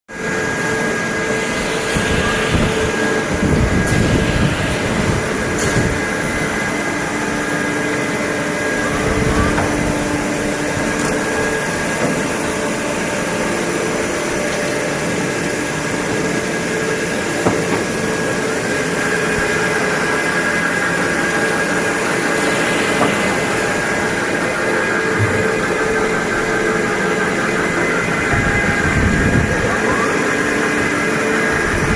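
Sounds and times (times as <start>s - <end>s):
lathe machine hum: 0.1s - 31.9s.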